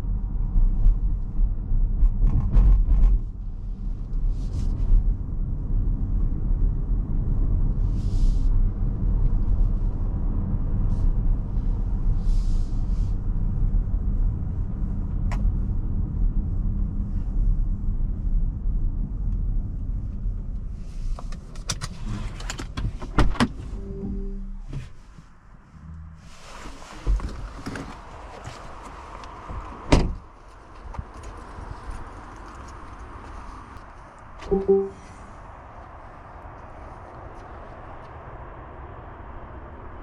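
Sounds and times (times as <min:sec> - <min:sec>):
road and tyre noise in cabin: 0:00.0 - 0:40.0.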